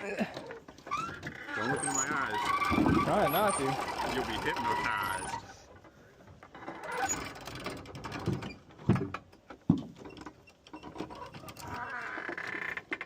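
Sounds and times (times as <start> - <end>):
wall crank clicking and creaking: 0.0 - 13.0.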